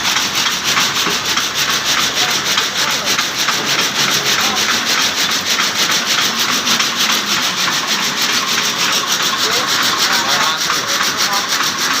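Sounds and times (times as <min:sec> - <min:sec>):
sticks rasping in polishing machine: 0:00.0 - 0:12.0.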